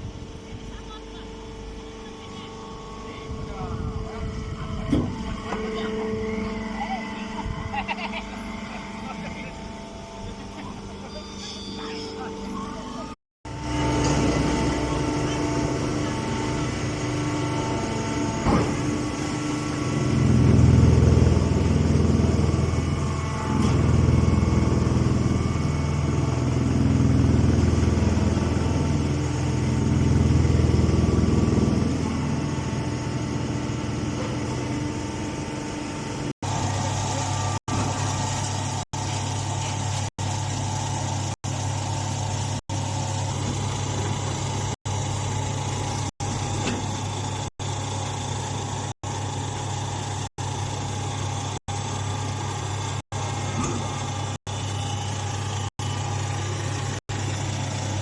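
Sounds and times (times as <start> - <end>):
hydraulic power unit droning: 0.0 - 58.0.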